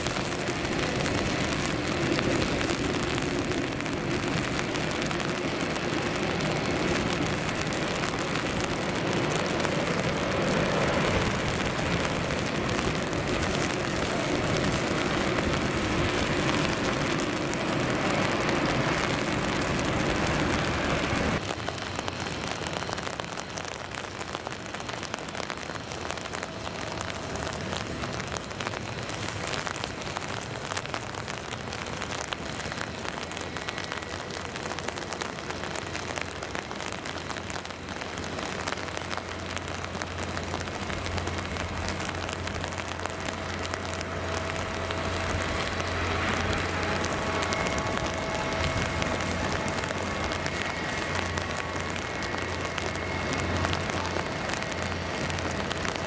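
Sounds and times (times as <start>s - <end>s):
heavy rain hissing: 0.0s - 56.0s
jet engines rumbling: 0.0s - 56.0s.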